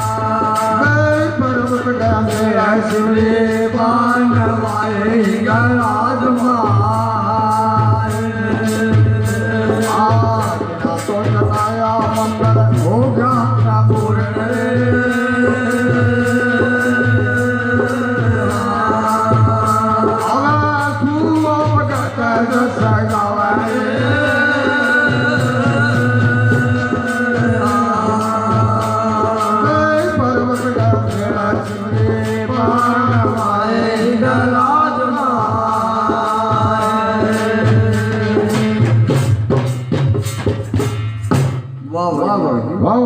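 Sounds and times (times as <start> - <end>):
devotional folk singing: 0.0 - 39.7
steady percussion beat: 0.0 - 43.0.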